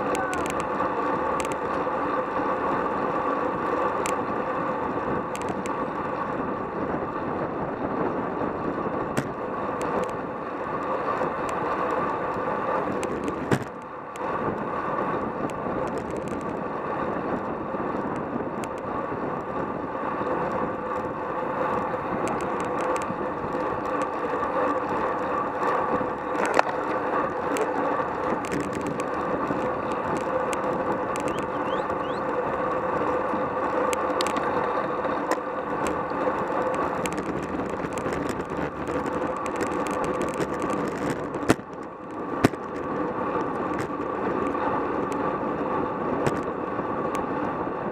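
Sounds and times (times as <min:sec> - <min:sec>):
bike tyres humming on asphalt: 0:00.0 - 0:47.9
wind rushing over camera: 0:00.0 - 0:47.9.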